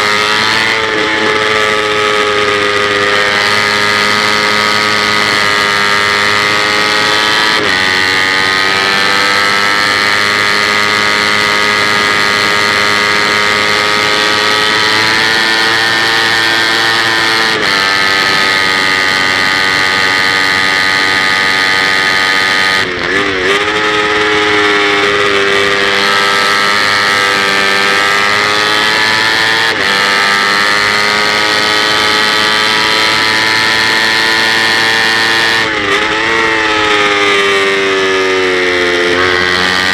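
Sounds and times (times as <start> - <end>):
race engine at high revs: 0.0 - 39.9.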